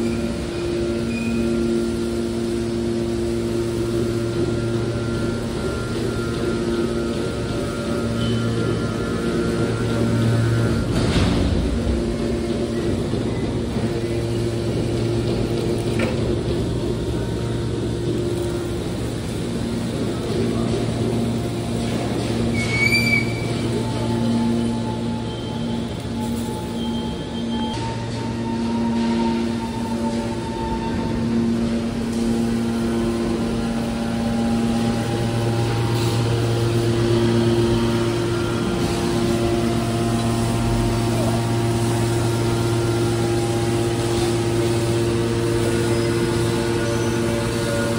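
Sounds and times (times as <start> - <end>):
hydraulic power unit humming: 0.0 - 47.9.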